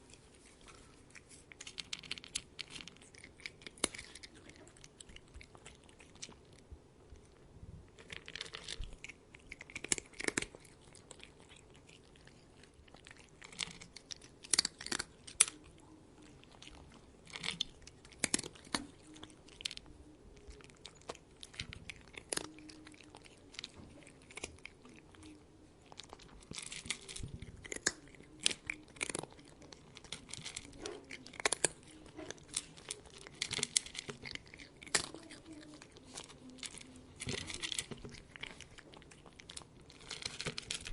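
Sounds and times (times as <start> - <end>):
cat crunching food: 0.0 - 40.9.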